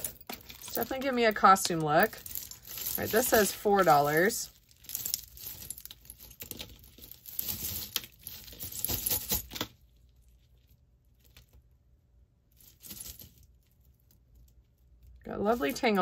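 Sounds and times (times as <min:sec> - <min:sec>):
jewelry clinking and rattling: 0:00.0 - 0:09.9, 0:12.5 - 0:16.0.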